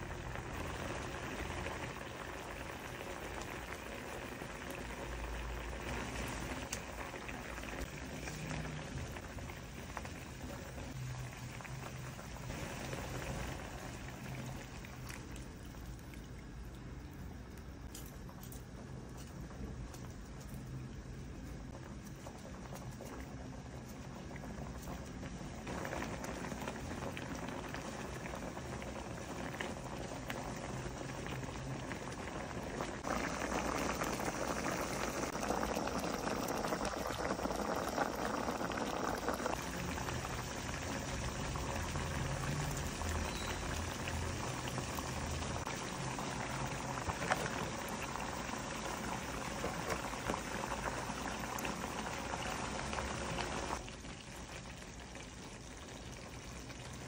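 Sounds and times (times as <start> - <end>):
coconut milk bubbling in a pan: 0.0 - 57.0.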